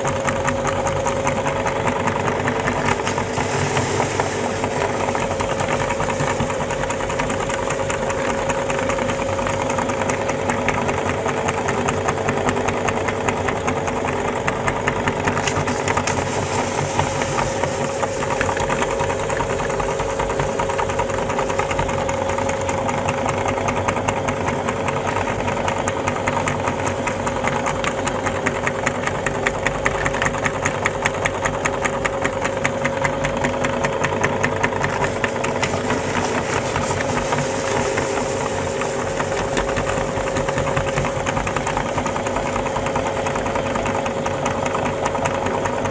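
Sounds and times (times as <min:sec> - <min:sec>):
meat grinder humming and ticking: 0:00.0 - 0:45.9.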